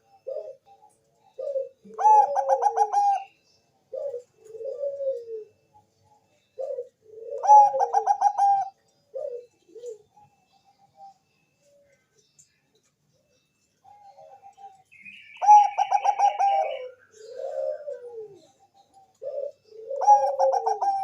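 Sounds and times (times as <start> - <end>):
dove cooing: 0.0 - 11.8, 13.8 - 21.0.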